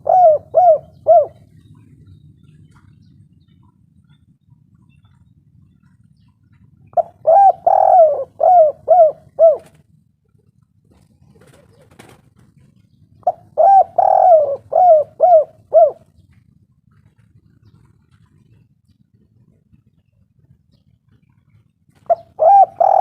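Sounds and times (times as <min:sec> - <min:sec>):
dove cooing: 0:00.0 - 0:04.2, 0:05.0 - 0:10.0, 0:10.9 - 0:20.0, 0:20.8 - 0:23.0.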